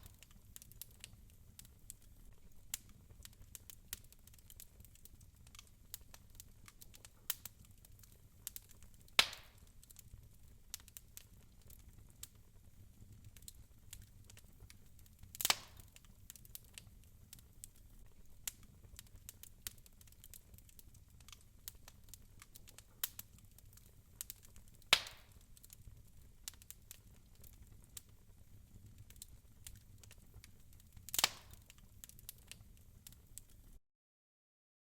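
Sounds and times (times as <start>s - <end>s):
fire pops: 0.0s - 33.8s
wood fire crackling: 0.0s - 33.8s.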